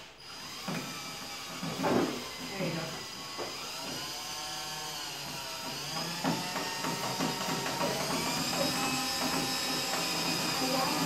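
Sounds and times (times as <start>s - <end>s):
small electric motor whining: 0.0s - 11.0s.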